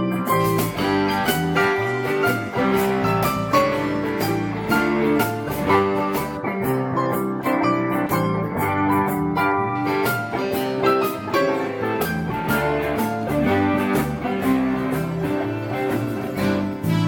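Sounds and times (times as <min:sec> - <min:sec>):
strummed guitars with steady beat: 0:00.0 - 0:17.0.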